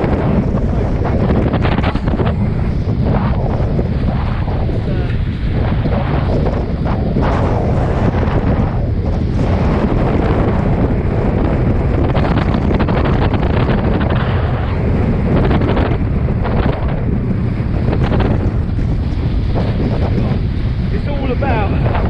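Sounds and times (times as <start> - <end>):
heavy wind on microphone: 0.0 - 22.0
rushing water and spray: 0.0 - 22.0.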